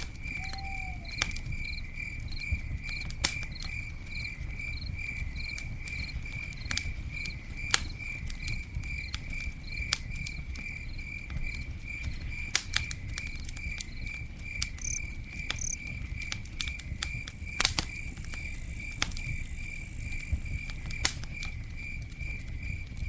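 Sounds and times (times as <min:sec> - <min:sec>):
campfire crackling: 0:00.0 - 0:23.0
cricket chirping: 0:00.0 - 0:23.0.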